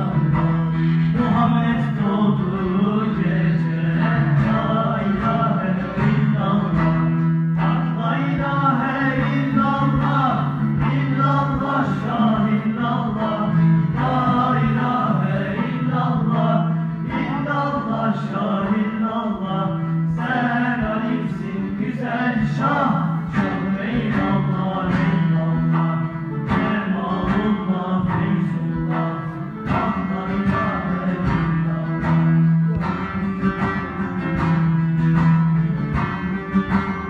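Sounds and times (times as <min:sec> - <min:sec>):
voices singing together: 0:00.0 - 0:33.2.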